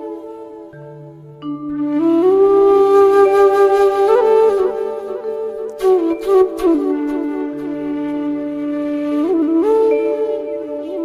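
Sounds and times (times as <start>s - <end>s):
flute melody: 0.0s - 11.0s.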